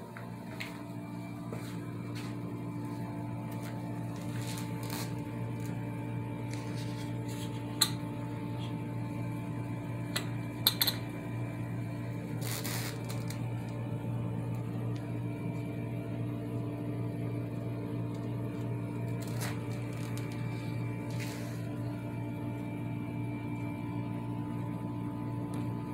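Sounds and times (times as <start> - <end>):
low machine hum: 0.0 - 25.9.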